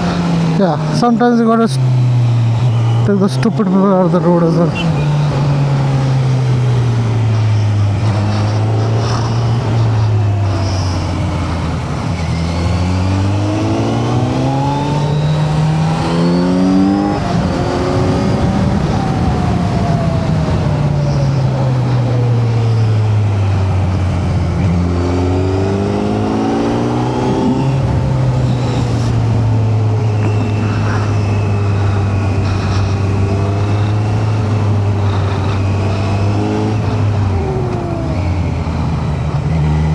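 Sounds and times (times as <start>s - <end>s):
motorcycle engine: 0.0s - 39.9s
wind rush: 1.9s - 39.9s.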